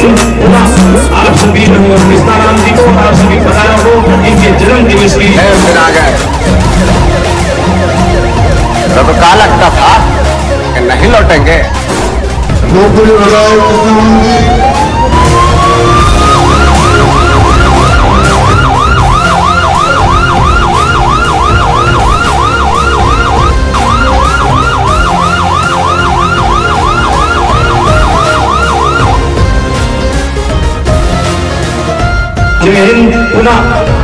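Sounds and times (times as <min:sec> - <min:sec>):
vehicle siren wailing and yelping: 0:02.0 - 0:29.8.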